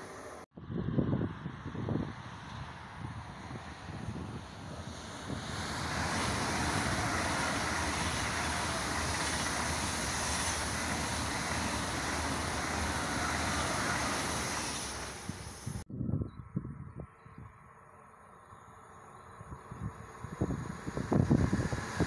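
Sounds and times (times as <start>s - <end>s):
high-speed train passing: 0.0s - 15.9s, 17.4s - 22.0s.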